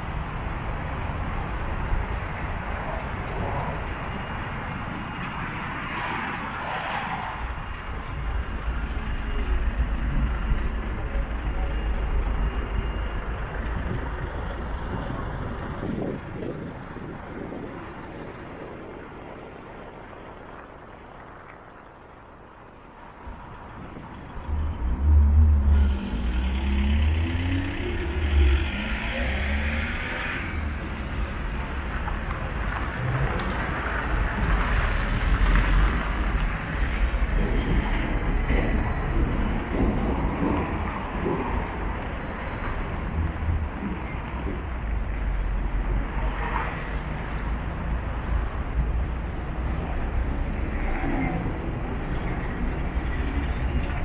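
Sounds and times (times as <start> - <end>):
cars and truck driving past: 0.0 - 18.4, 23.1 - 54.0
tyre noise on road: 0.0 - 54.0.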